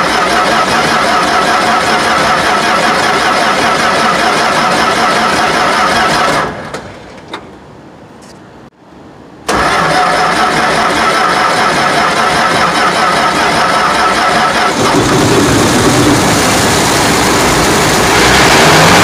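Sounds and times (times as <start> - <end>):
engine cranking: 0.0 - 6.8, 9.5 - 19.0.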